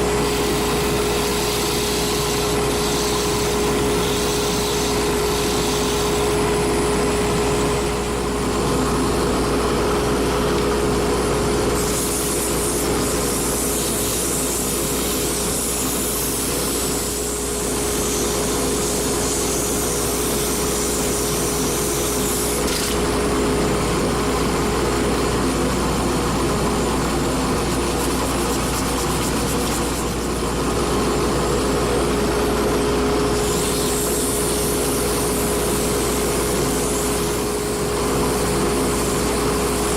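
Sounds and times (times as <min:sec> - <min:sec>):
wood lathe motor whine: 0:00.0 - 0:39.9.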